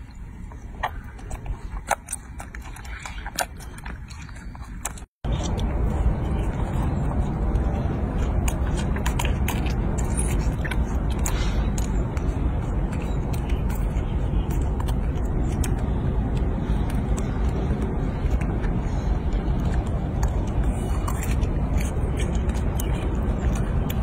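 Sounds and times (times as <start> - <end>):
monkey chewing and smacking: 0.0 - 24.0
steady low rumble: 0.0 - 24.0.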